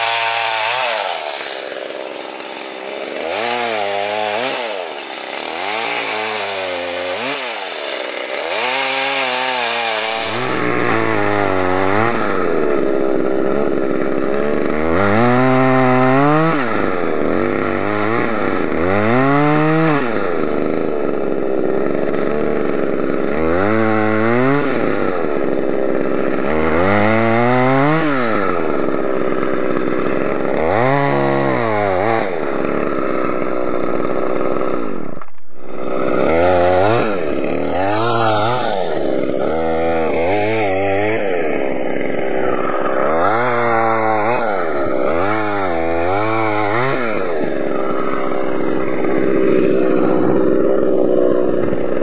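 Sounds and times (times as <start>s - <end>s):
chainsaw revving: 0.0s - 52.0s.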